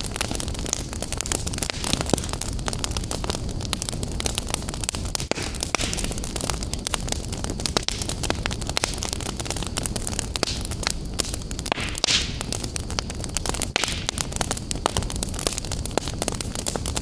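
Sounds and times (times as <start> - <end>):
fire crackling and popping: 0.0 - 17.0
fire rumbling and hissing: 0.0 - 17.0.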